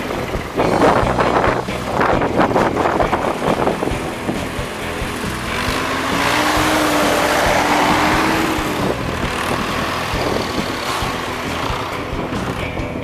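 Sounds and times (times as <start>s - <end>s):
diesel tractors driving past: 0.0s - 13.0s.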